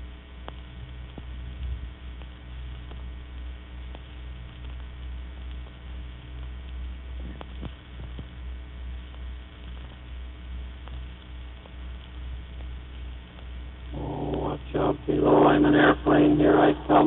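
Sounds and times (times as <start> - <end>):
faint clicks and crackle: 0.0 - 17.0
low mains hum: 0.0 - 17.0.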